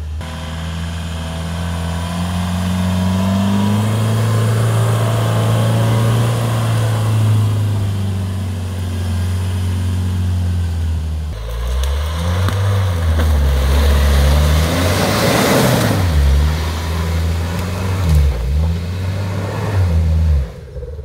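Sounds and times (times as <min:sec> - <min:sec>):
engine revving: 0:00.0 - 0:21.0
tyres churning mud: 0:01.2 - 0:21.0.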